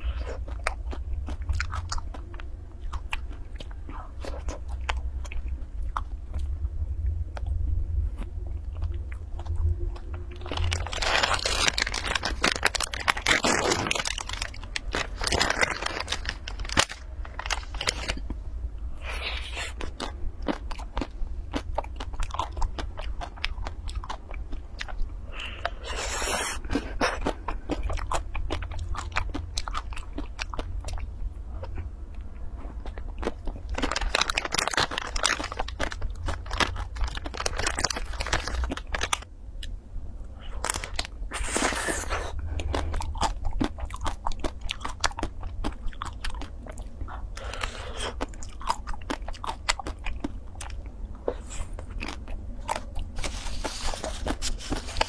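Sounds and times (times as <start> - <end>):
crunching and chewing ice cream bar: 0.0 - 55.0.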